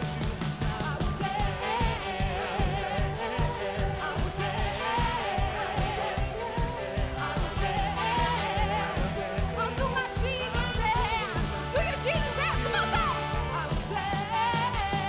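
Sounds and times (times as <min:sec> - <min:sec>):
people singing: 0:00.0 - 0:15.0
steady drum beat: 0:00.0 - 0:15.0
worship band music: 0:00.0 - 0:15.0.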